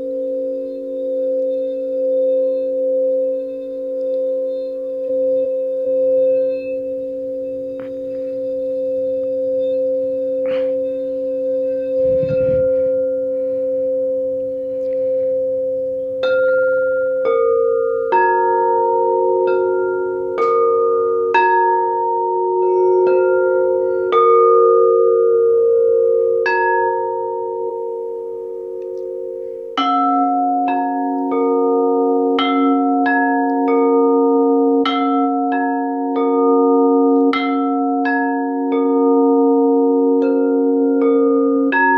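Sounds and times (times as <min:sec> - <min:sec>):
singing bowls humming: 0:00.0 - 0:41.9
struck singing bowl notes: 0:00.0 - 0:41.9.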